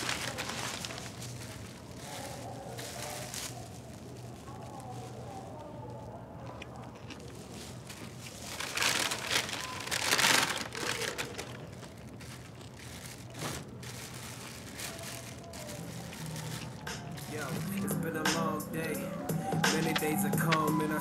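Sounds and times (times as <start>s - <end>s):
plastic wrap crinkling: 0.0s - 21.0s.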